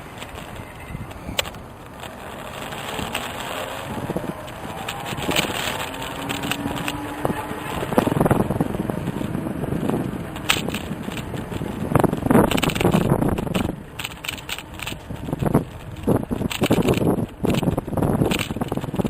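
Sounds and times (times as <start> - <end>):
clicks and rattles: 0.0 - 7.0, 10.0 - 19.0
wind rushing over microphone: 0.0 - 19.0.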